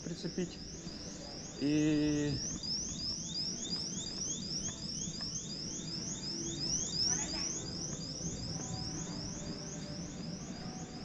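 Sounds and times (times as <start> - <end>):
electronic chirp: 0.0 - 11.0
low background noise: 0.0 - 11.0.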